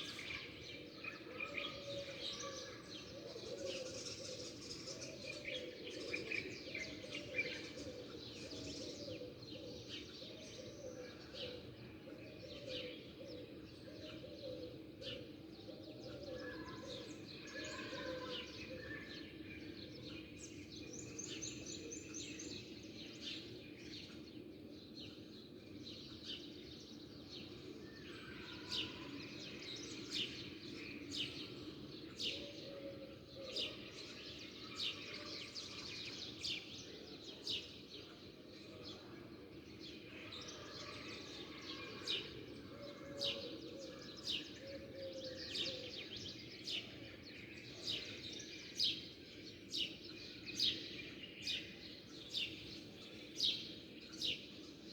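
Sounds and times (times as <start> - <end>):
songbirds chirping and twittering: 0.0 - 54.9.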